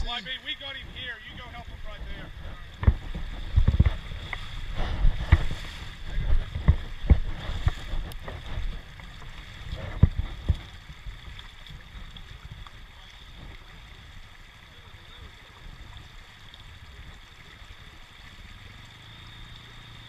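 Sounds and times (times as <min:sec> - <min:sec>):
wind buffeting microphone: 0:00.0 - 0:18.7
creek water rushing: 0:00.0 - 0:20.0
splashes of wading: 0:00.0 - 0:20.0.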